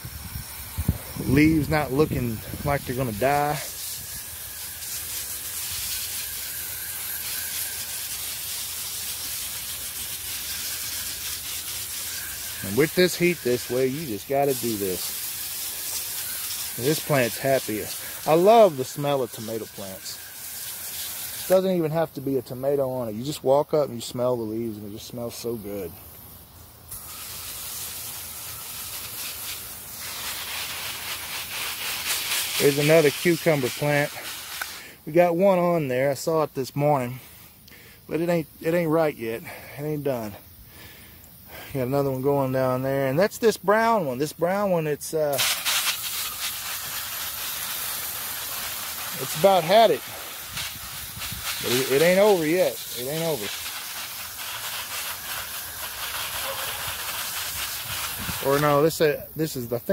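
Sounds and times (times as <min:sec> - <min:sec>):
water spray hissing: 0:00.0 - 0:59.9.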